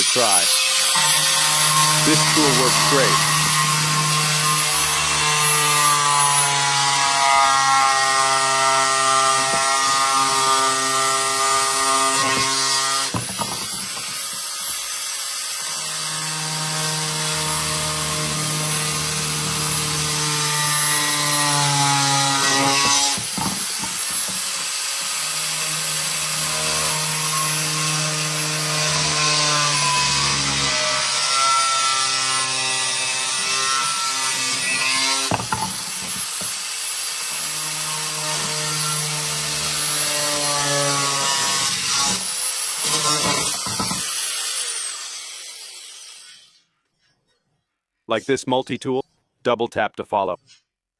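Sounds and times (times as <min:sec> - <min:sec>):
power tool cutting wood: 0:00.0 - 0:46.7.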